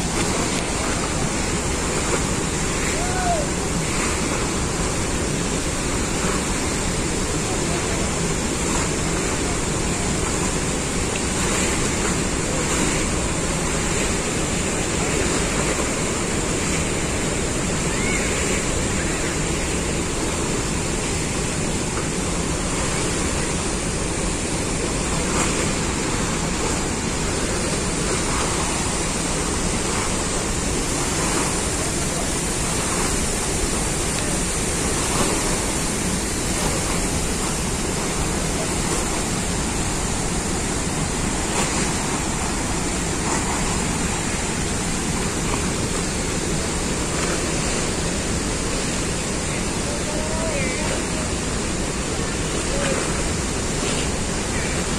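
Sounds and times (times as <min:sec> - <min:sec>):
water rushing and churning: 0:00.0 - 0:54.9.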